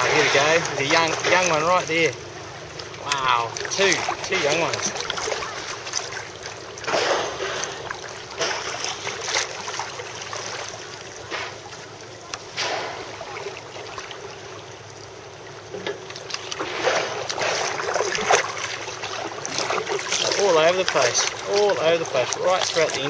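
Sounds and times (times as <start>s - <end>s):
sea and wind hiss: 0.0s - 23.0s
water sloshing around kayak: 0.0s - 23.0s.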